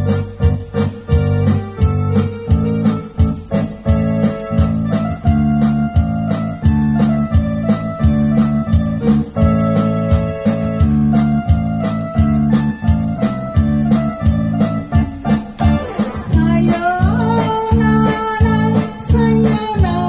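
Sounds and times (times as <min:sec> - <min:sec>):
keyboard organ-like chords: 0:00.0 - 0:20.0.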